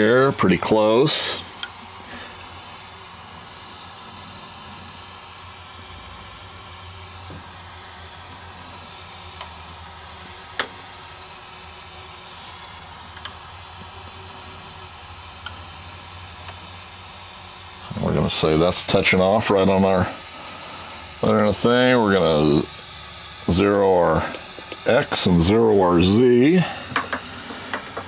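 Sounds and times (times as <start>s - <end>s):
machine hum and hiss: 0.0s - 28.0s.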